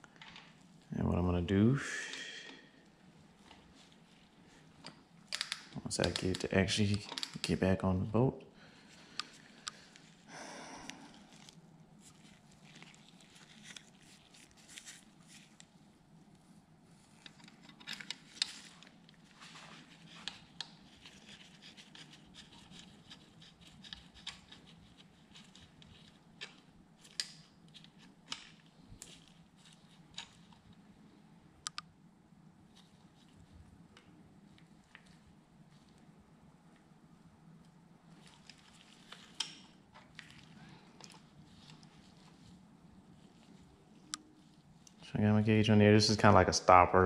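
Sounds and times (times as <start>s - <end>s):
faint low hum: 0.0s - 47.0s.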